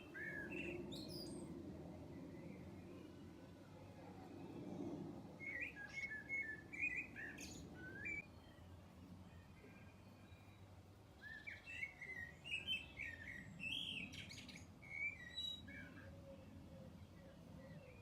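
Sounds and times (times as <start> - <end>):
small birds chirping: 0.0 - 3.4, 5.4 - 18.0.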